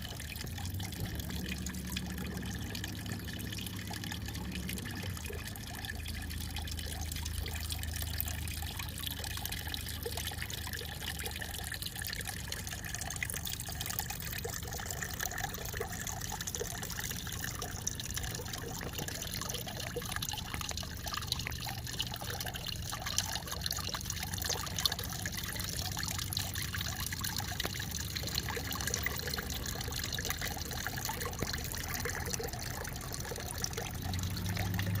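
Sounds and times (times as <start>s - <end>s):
water fountain splashing: 0.0s - 35.0s.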